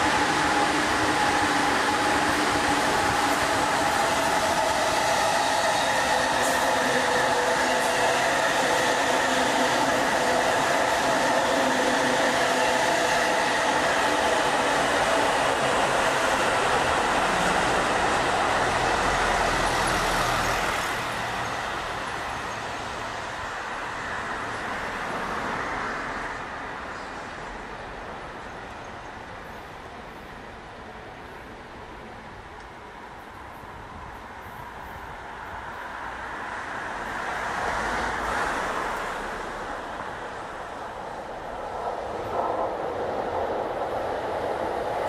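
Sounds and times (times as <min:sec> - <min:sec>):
electric train whine: 0:00.0 - 0:45.0
train wheels rumbling on rail: 0:00.0 - 0:45.0.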